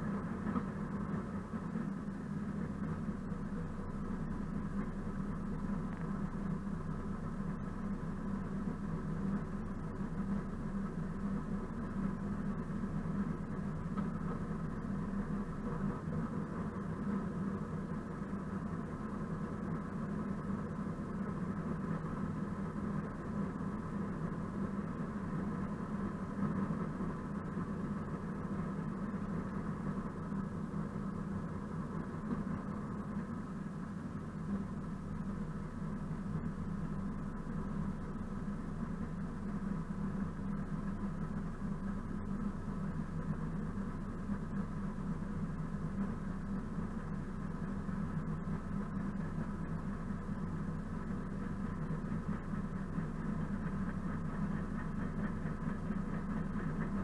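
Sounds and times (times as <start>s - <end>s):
muffled diesel engine running: 0.0s - 57.0s.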